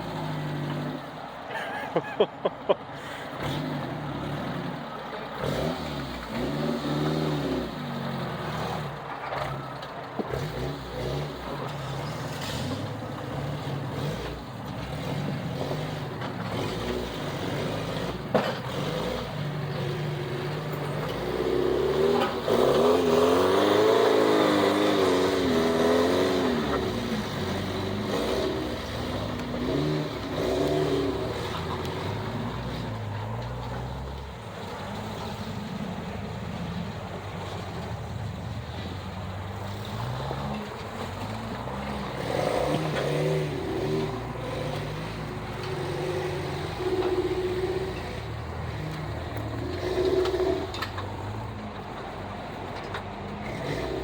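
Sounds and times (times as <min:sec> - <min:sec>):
off-road vehicle engine revving: 0:00.0 - 0:02.2, 0:03.0 - 0:54.0.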